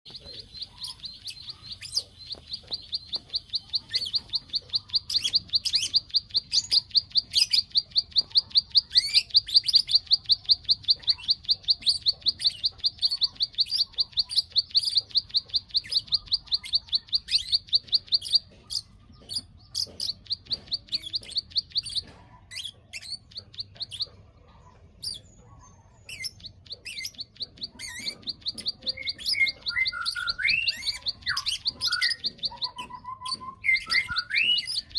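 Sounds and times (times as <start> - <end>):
bird clicking call: 0.1 - 24.2, 26.1 - 34.9
sharp bird chirps: 0.1 - 34.9.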